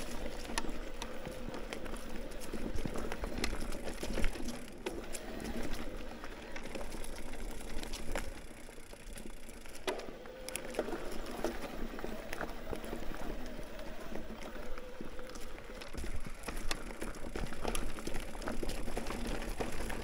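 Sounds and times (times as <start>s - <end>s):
bike knocking and rattling: 0.0s - 13.4s, 14.6s - 20.0s.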